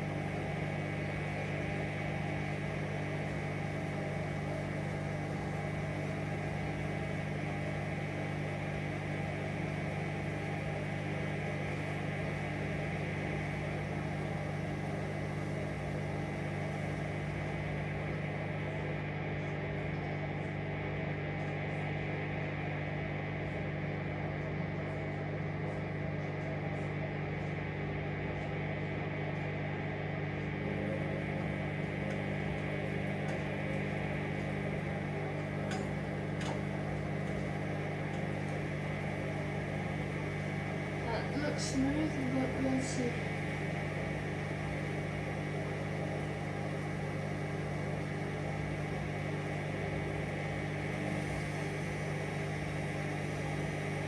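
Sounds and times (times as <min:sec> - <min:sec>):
washing machine spinning: 0:00.0 - 0:26.0, 0:26.7 - 0:54.0.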